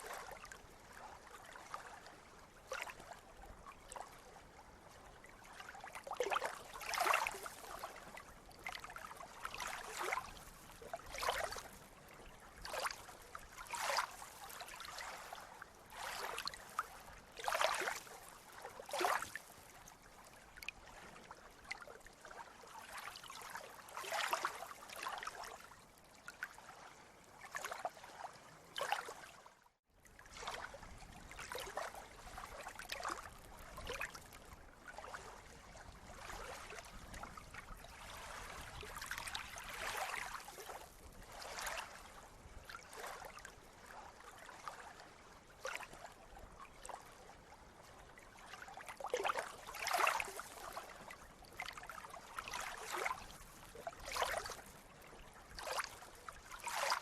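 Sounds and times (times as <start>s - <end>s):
sea water lapping and splashing: 0.0s - 57.0s.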